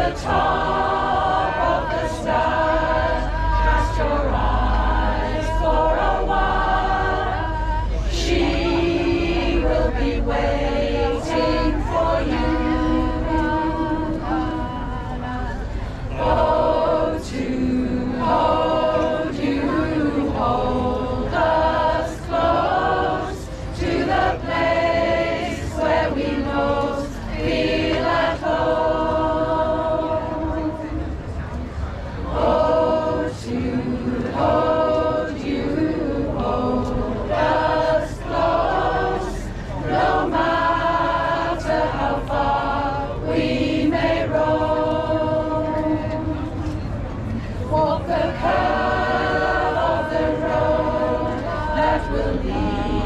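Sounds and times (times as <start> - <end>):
choir singing a cappella: 0.0 - 53.0.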